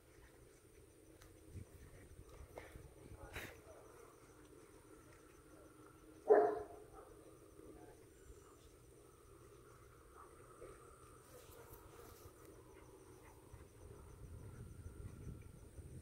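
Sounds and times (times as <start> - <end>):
high-pitched insect drone: 1.0 - 16.0.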